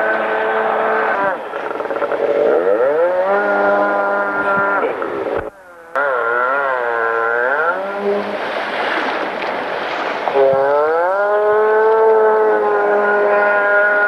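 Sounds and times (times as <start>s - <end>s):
jet ski engine whining: 0.0s - 14.0s
water rushing and splashing: 0.0s - 14.0s.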